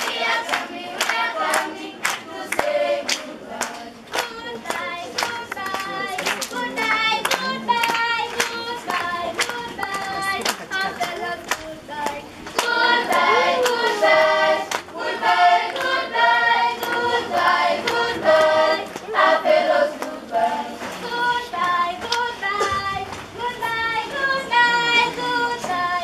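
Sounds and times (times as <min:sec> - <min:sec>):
hands clapping in rhythm: 0:00.0 - 0:25.9
choir singing: 0:00.0 - 0:26.0.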